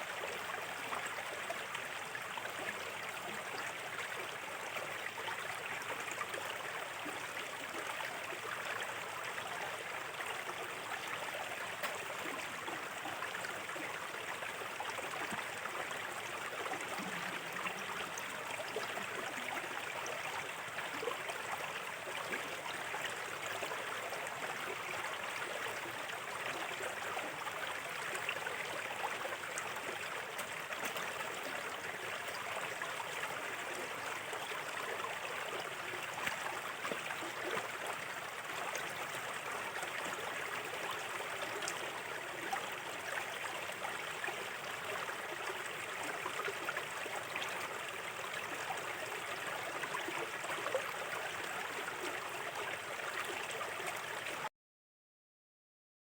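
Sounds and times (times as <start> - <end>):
river water babbling: 0.0 - 54.4.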